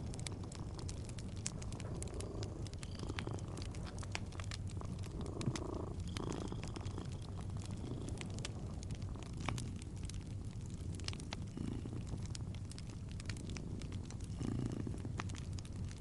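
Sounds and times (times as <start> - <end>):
cat purring: 0.0 - 16.0
fireplace crackling: 0.0 - 16.0.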